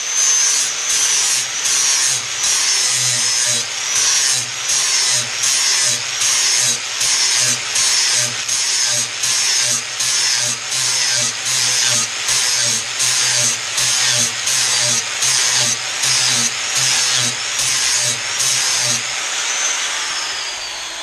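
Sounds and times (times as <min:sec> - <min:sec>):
angle grinder grinding steel: 0:00.0 - 0:21.0.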